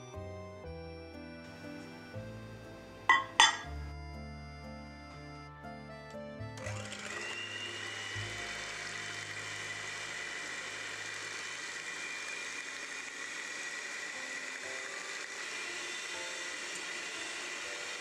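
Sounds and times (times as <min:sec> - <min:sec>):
electric hand mixer whining: 0:00.0 - 0:18.0.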